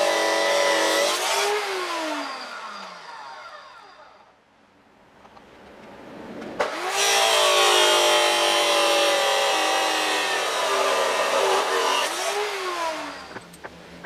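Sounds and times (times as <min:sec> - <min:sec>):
chop saw motor whining: 0:00.0 - 0:04.4, 0:06.6 - 0:13.7
saw motor winding down: 0:00.0 - 0:04.4, 0:06.6 - 0:13.5.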